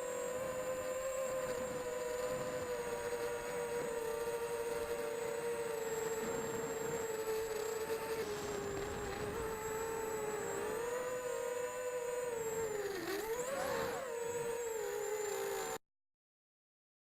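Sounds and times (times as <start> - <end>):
quadcopter motors whining: 0.0 - 15.8.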